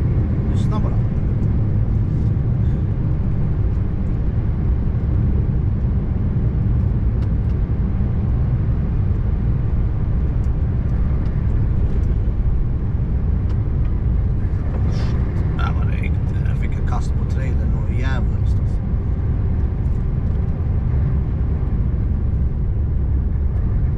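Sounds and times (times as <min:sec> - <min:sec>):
road noise: 0:00.0 - 0:23.9.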